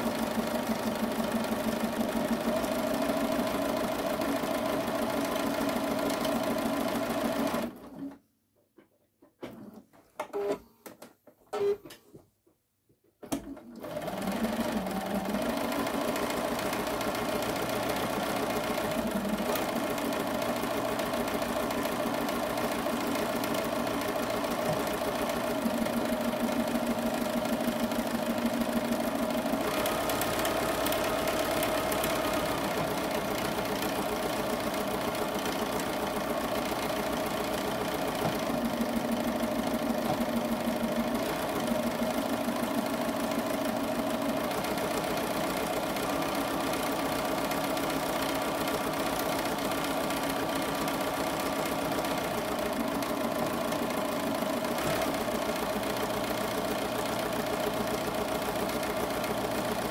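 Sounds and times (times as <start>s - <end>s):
sewing machine running: 0.0s - 8.1s, 13.3s - 59.9s.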